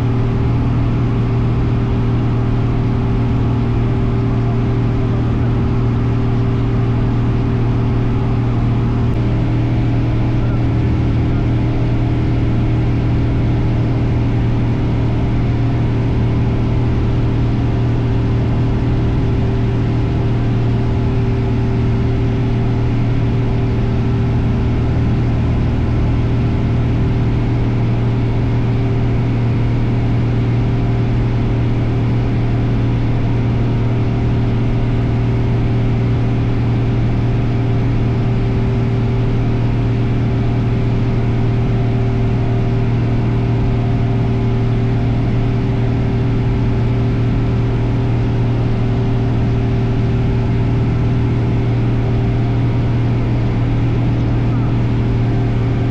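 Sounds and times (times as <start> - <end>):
light aircraft engine droning: 0.0 - 55.9.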